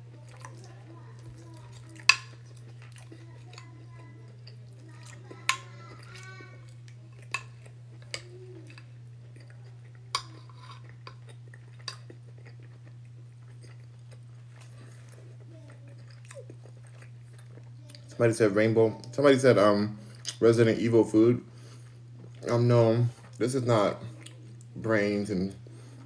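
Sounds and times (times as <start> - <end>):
quiet chewing: 0.0 - 18.2, 20.0 - 20.4, 21.5 - 24.9, 25.5 - 26.0
steady low hum: 0.0 - 26.0.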